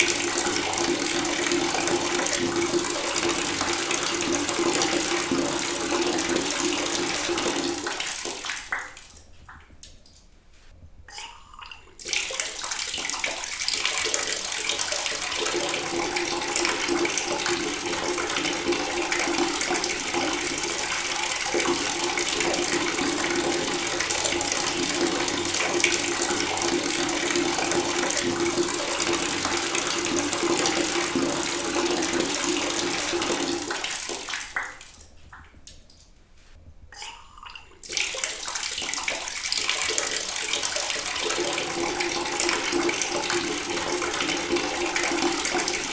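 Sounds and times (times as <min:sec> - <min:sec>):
water running from a tap: 0:00.0 - 0:09.0, 0:12.0 - 0:35.0, 0:37.8 - 0:45.9.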